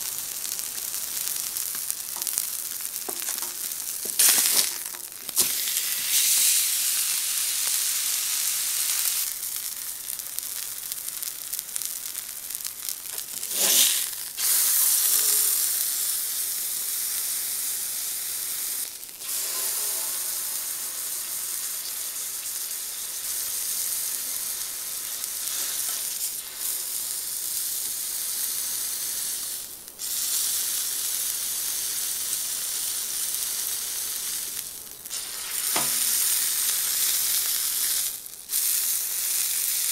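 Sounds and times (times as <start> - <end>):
steak sizzling on griddle: 0.0 - 39.9.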